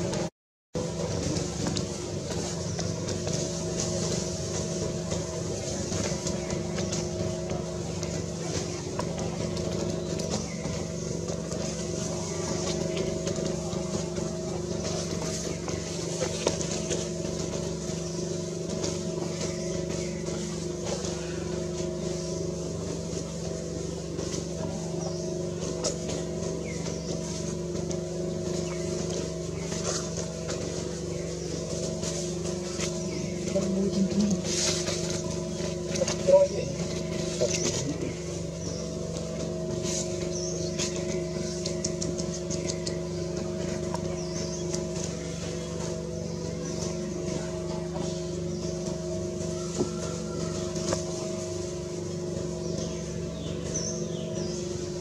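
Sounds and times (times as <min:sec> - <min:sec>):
engine idling: 0:00.0 - 0:55.0
steady motor hum: 0:00.0 - 0:55.0.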